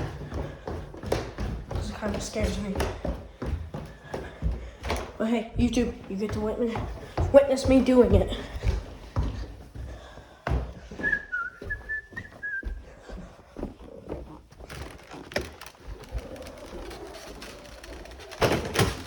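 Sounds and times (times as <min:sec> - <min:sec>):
vacuum cleaners bumping on stairs: 0:00.0 - 0:19.0.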